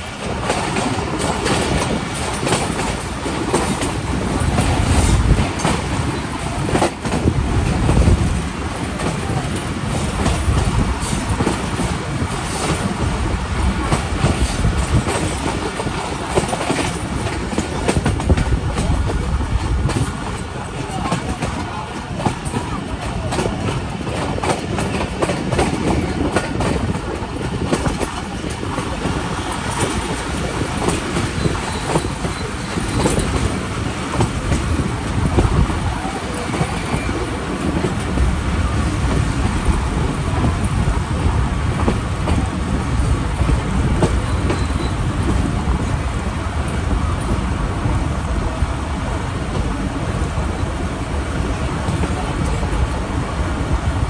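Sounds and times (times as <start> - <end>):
rail clicks: 0.0 - 54.0
train wheels rumbling on rails: 0.0 - 54.0.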